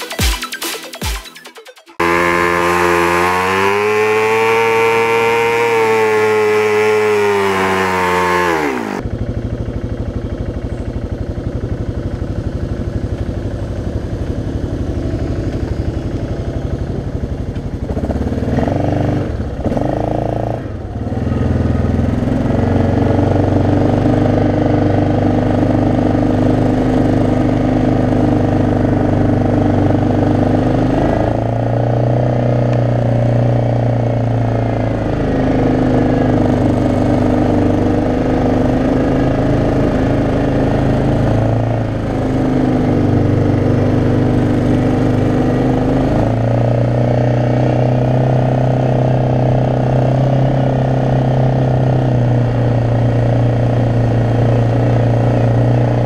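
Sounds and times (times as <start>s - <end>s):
atv engine revving: 2.0s - 56.0s.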